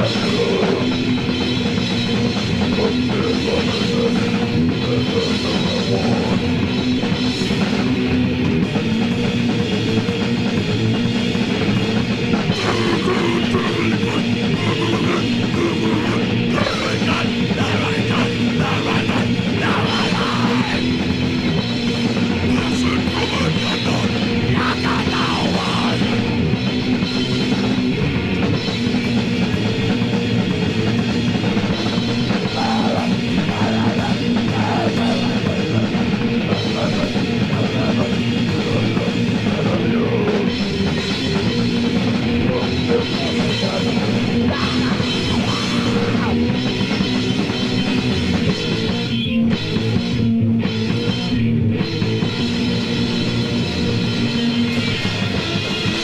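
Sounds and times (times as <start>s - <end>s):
bass: 0.0s - 56.0s
distorted electric guitars: 0.0s - 56.0s
pounding drum kit: 0.0s - 56.0s.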